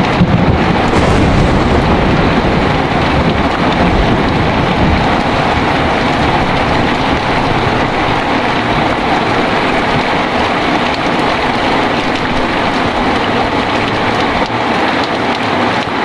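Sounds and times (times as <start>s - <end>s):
thunder rumbling: 0.0s - 15.4s
heavy rain pouring: 0.0s - 16.0s.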